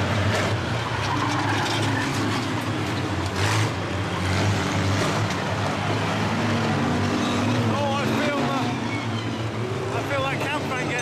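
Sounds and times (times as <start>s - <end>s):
racing van engines droning: 0.0s - 11.0s.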